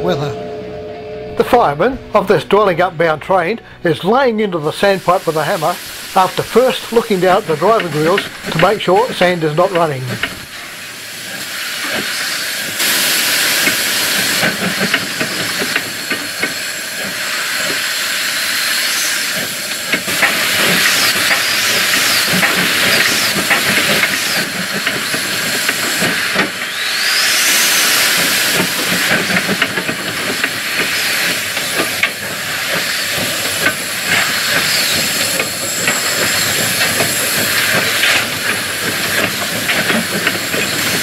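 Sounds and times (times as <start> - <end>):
steam locomotive hissing: 1.4 - 41.0.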